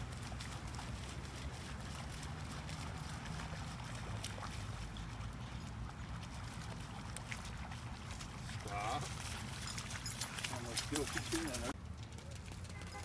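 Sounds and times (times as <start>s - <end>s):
dog splashing through water: 0.0s - 11.8s.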